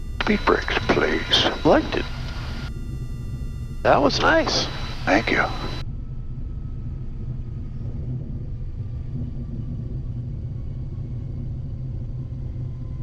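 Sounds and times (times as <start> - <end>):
faint whine tones: 0.0 - 13.0
jet cockpit rumble: 0.0 - 13.0.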